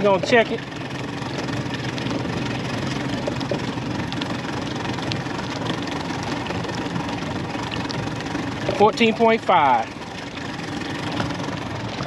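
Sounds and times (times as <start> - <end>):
outboard engine idling: 0.0 - 12.0.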